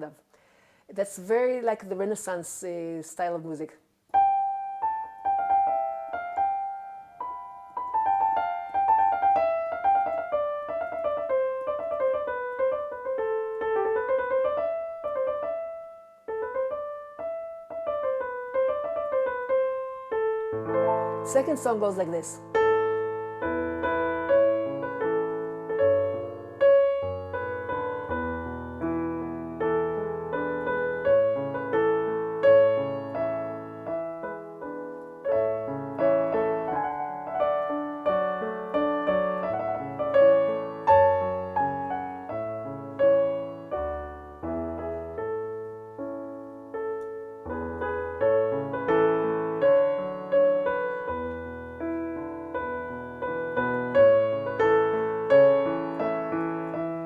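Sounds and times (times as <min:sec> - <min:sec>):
piano melody with chords: 0:04.0 - 0:57.0.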